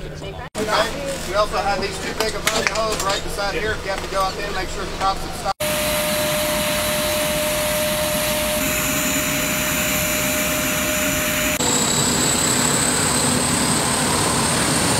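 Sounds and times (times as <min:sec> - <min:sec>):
aircraft turbine roar and whine: 0:00.6 - 0:14.9.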